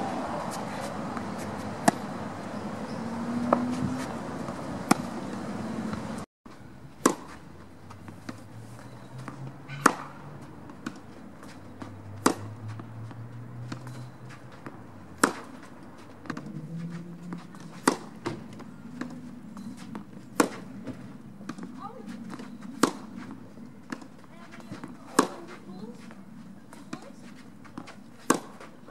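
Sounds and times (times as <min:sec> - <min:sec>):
racket hitting tennis ball: 0:00.0 - 0:06.2, 0:07.0 - 0:08.5, 0:09.2 - 0:28.9.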